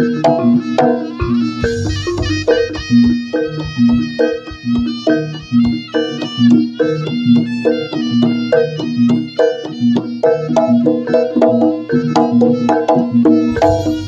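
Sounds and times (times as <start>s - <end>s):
drum strokes: 0.0s - 14.0s
gamelan pitched notes: 0.0s - 14.0s.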